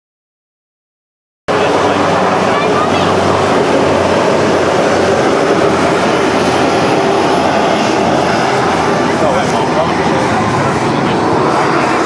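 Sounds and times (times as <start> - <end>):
turboprop engines droning: 1.5 - 12.0.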